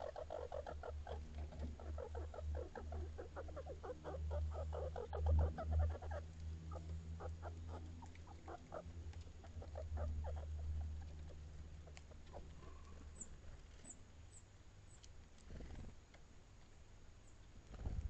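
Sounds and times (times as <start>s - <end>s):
small animals foraging clicks: 0.0s - 16.8s.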